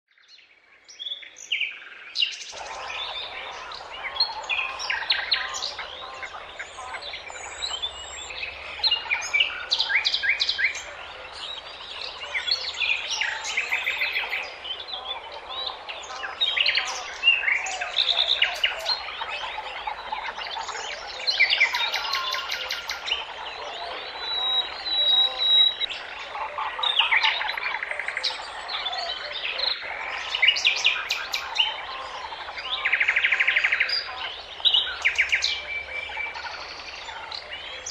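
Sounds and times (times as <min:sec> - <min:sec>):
small birds chirping and singing: 0:00.1 - 0:37.9.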